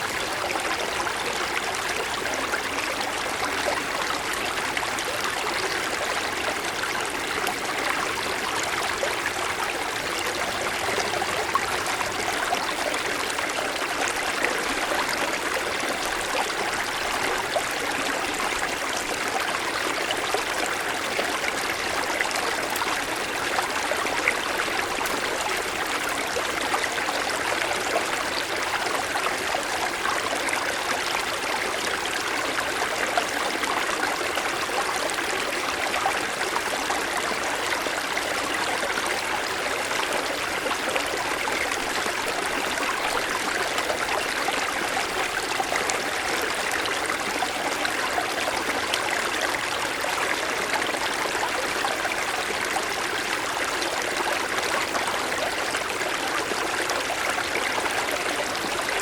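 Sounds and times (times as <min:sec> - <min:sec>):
stream water rushing over stones: 0:00.0 - 0:59.0.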